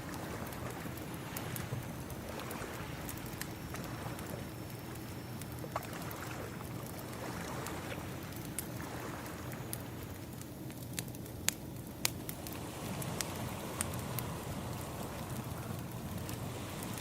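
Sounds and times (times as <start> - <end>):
ocean waves washing: 0.0 - 10.3, 12.0 - 17.0
wood fire crackling and popping: 0.0 - 17.0.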